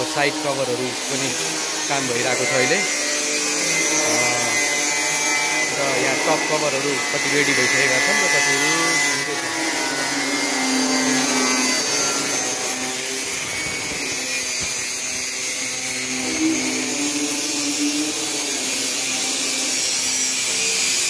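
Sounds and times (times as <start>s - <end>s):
angle grinder on steel sheet: 0.0s - 21.0s.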